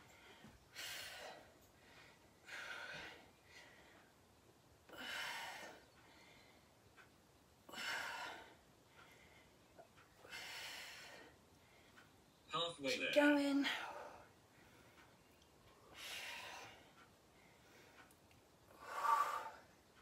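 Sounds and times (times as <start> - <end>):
woman breathing hard: 0.0 - 4.2, 4.9 - 6.8, 7.7 - 12.1, 13.7 - 18.1, 18.7 - 19.9.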